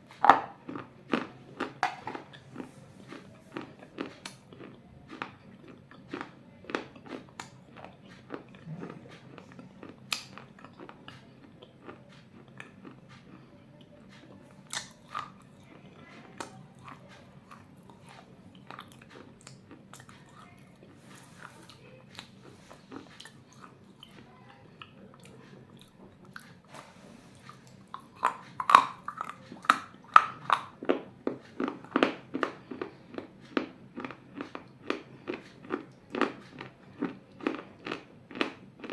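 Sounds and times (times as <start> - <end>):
clay bowl being chewed: 0.0 - 38.9.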